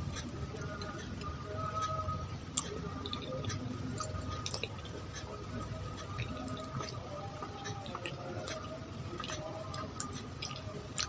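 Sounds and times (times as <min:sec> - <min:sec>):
liquid dripping: 0:00.0 - 0:11.0.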